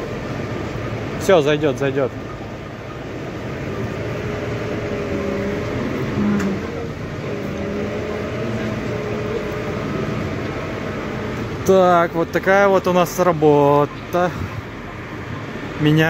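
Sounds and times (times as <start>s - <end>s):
crane engine running: 0.0s - 16.0s.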